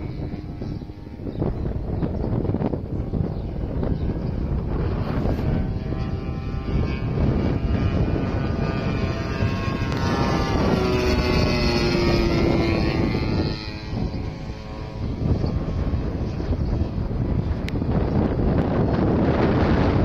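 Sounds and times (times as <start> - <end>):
model plane motor and propeller: 0.0 - 20.0
wind rumble on microphone: 0.0 - 20.0.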